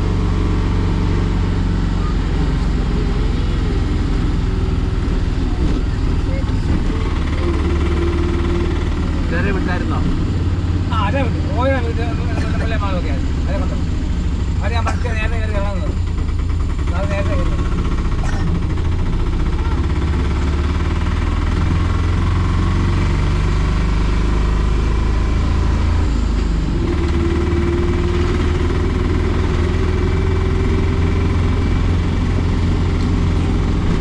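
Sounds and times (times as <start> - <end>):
auto rickshaw engine running: 0.0 - 34.0.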